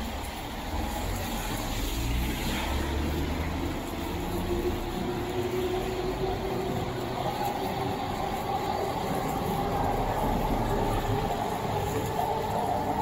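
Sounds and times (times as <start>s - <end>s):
electric train rumbling past: 0.0s - 13.0s.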